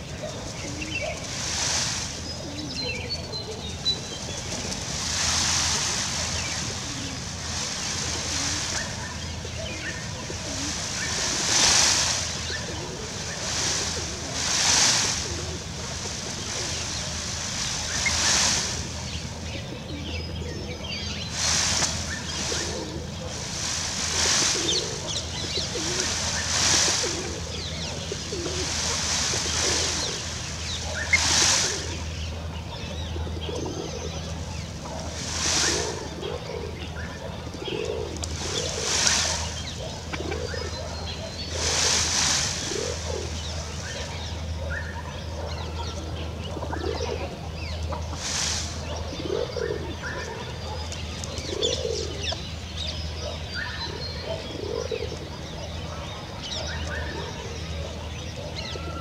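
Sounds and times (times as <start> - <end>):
peacock train rustling rattle: 0.0 - 19.9, 21.1 - 32.4, 33.0 - 44.6, 47.0 - 52.4.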